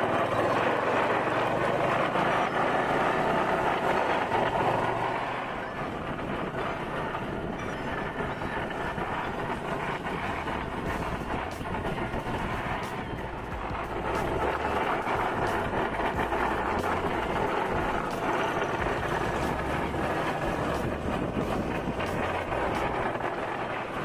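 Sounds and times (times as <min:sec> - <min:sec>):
motorcycle tricycle riding: 0:00.0 - 0:24.0.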